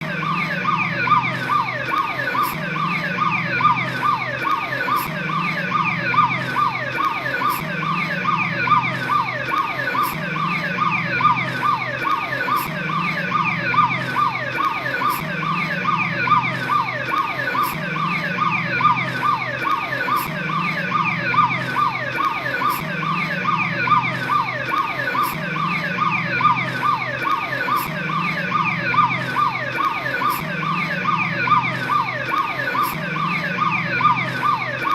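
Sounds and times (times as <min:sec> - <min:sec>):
police siren yelping: 0:00.0 - 0:34.9.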